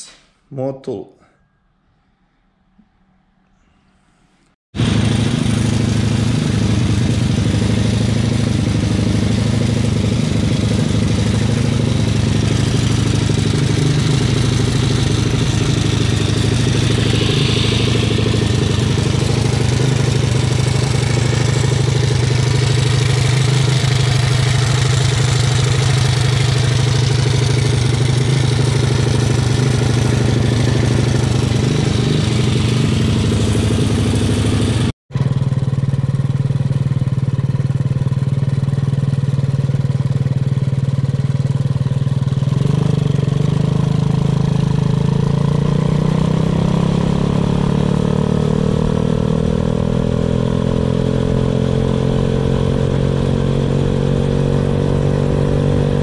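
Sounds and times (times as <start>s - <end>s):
small engine idling: 4.8s - 56.0s.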